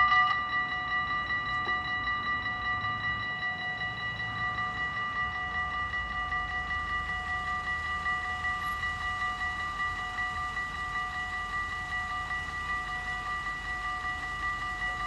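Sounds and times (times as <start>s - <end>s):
level-crossing warning bells ringing: 0.0s - 15.0s.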